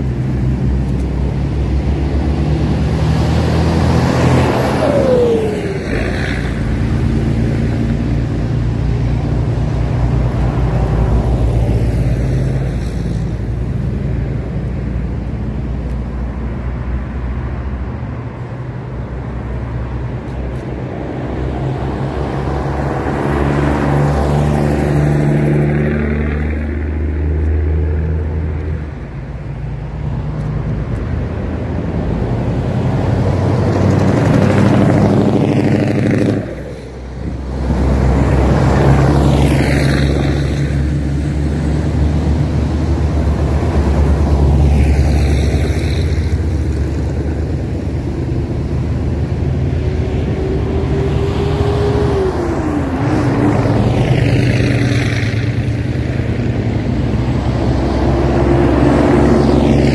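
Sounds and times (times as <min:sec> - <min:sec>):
vehicles driving past: 0:00.0 - 0:59.9.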